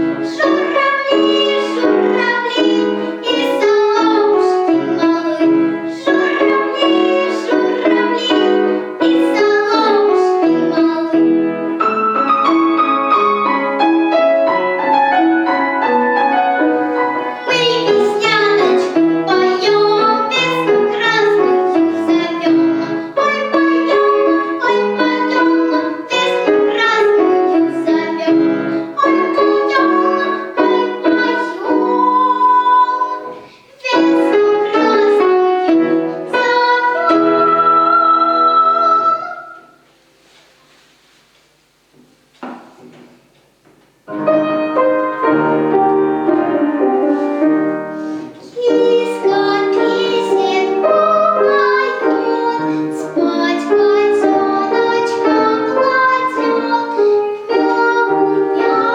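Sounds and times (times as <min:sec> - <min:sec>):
girl singing: 0:00.0 - 0:13.0, 0:15.8 - 0:39.8, 0:45.3 - 0:58.9
piano accompaniment: 0:00.0 - 0:40.6, 0:41.5 - 0:58.9.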